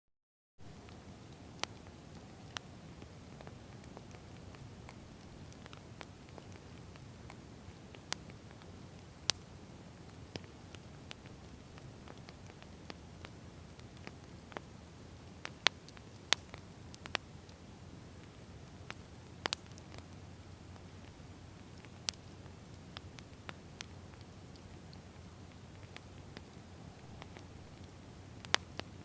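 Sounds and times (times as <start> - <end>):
wood fire crackling: 0.6 - 29.0.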